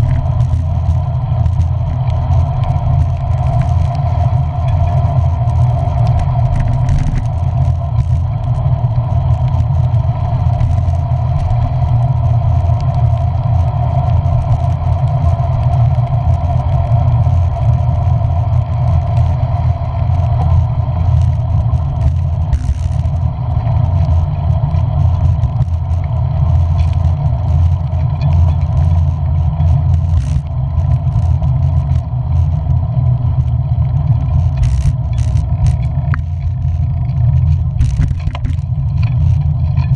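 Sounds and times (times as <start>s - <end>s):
light clicks and clatter: 0.0s - 39.9s
vehicle rumble: 0.0s - 39.9s.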